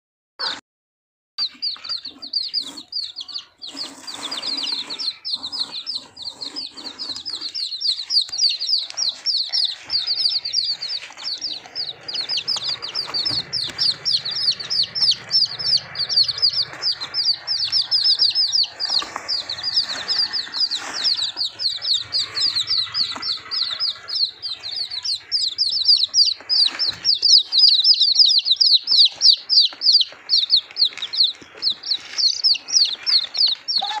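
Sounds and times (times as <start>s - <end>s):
chicks peeping: 1.4s - 34.0s.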